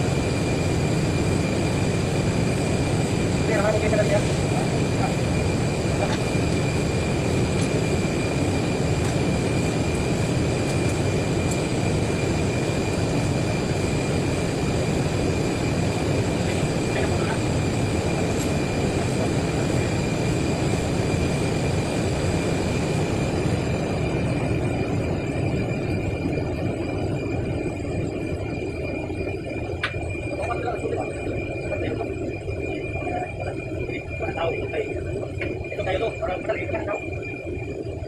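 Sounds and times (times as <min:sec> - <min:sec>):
machine rumble with high whine: 0:00.0 - 0:38.0.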